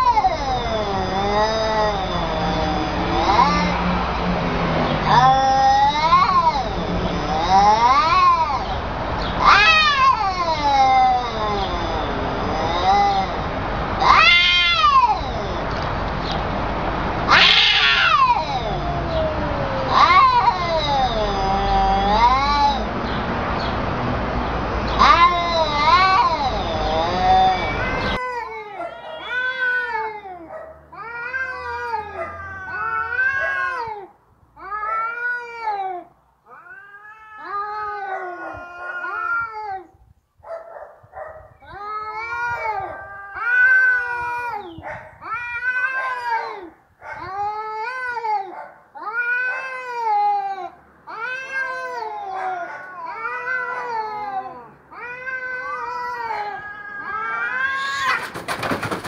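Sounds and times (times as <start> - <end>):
cats yowling: 0.0 - 16.4, 17.0 - 23.2, 24.7 - 39.9, 41.2 - 59.0.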